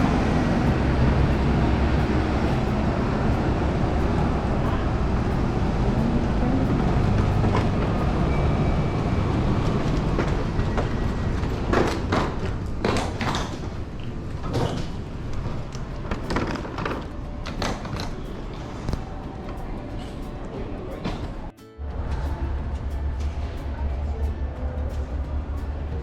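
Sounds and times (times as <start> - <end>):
low vehicle rumble: 0.0 - 26.0.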